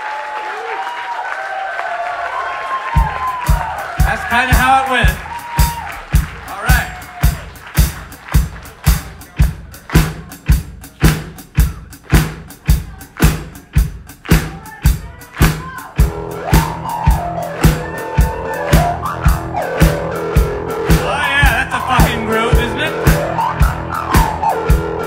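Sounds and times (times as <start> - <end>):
drum kit beat: 2.7 - 25.0
electric bass: 3.5 - 25.0.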